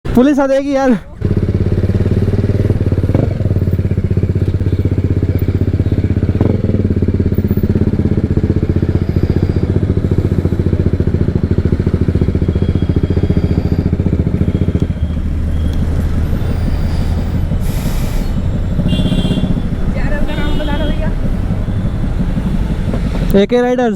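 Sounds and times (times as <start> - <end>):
motorcycle loud exhaust running: 0.1 - 23.9.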